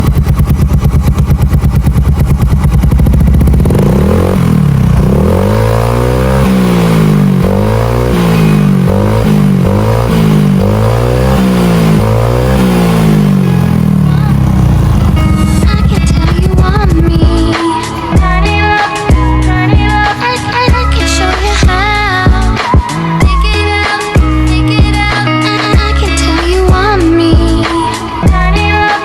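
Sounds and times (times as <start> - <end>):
scooter engine idling and revving: 0.0 - 29.0.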